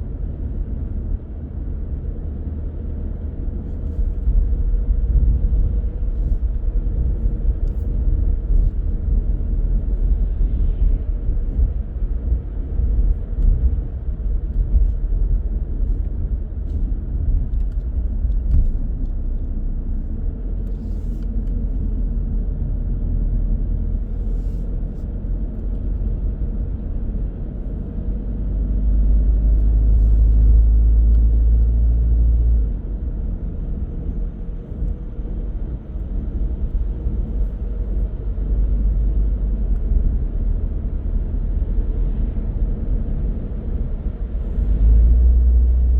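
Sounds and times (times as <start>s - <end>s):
car tyre and engine rumble: 0.0s - 45.9s.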